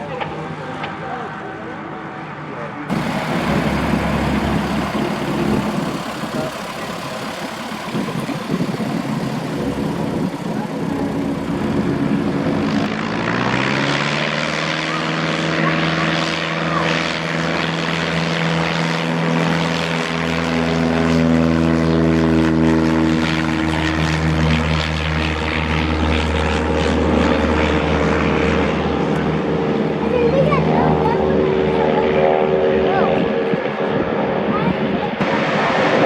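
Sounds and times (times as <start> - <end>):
propeller airplane engine: 2.9 - 36.0.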